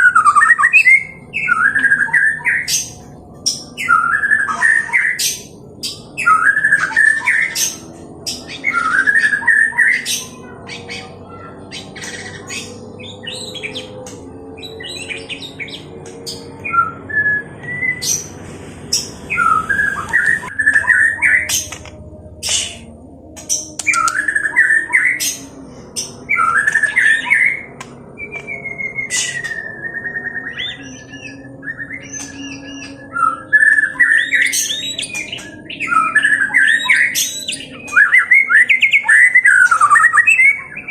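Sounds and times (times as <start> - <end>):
bird singing harsh chattering phrases: 0.0 - 40.9.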